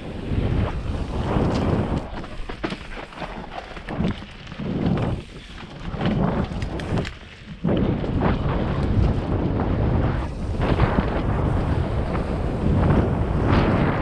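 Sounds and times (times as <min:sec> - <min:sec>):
wind rushing over microphone: 0:00.0 - 0:02.4, 0:03.8 - 0:14.0
tyres running over dirt: 0:00.4 - 0:14.0
bike clicks and rattles: 0:00.8 - 0:13.9.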